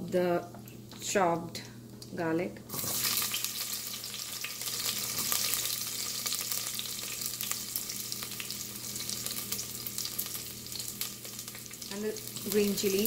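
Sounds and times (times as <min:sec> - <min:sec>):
spices sizzling in hot oil: 0:01.9 - 0:13.0.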